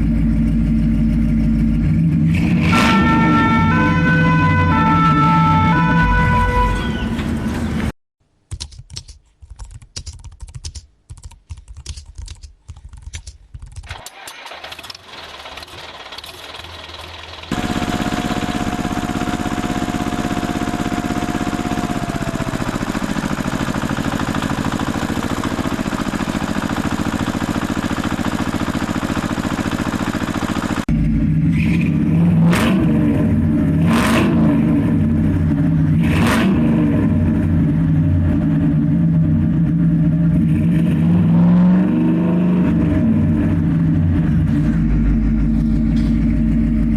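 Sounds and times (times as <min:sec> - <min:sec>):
engine running: 0:00.0 - 0:07.9, 0:13.9 - 0:46.9
engine sputtering: 0:00.0 - 0:07.9, 0:13.8 - 0:46.9.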